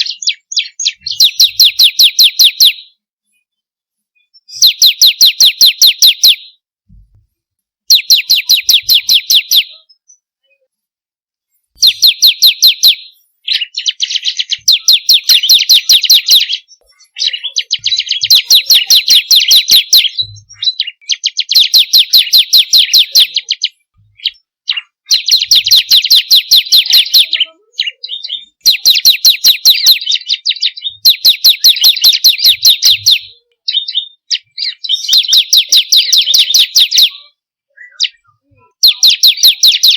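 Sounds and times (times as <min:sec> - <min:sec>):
bird singing rapid sharp chirps: 0:00.0 - 0:03.0, 0:04.2 - 0:06.6, 0:07.9 - 0:10.3, 0:11.8 - 0:39.9.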